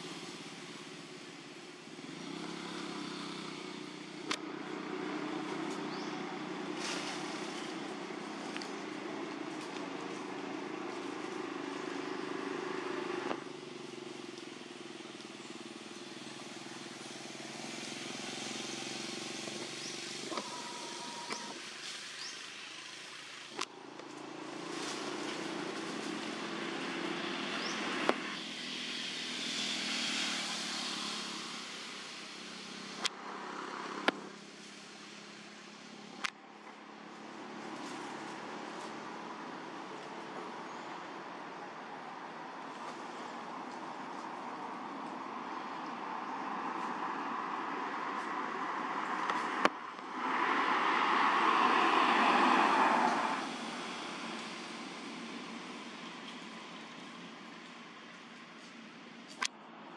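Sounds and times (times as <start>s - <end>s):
traffic engine hum: 0.0s - 59.9s.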